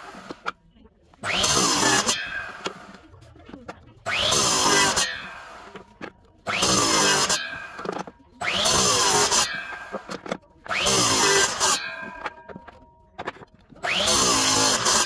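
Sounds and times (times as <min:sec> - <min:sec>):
miter saw cutting wood: 0:01.2 - 0:03.2, 0:04.0 - 0:15.0.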